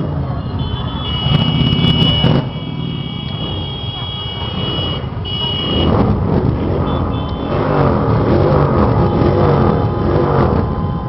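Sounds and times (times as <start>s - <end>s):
engines revving: 0.0s - 11.0s
motorcycle engines rumbling: 0.0s - 11.0s.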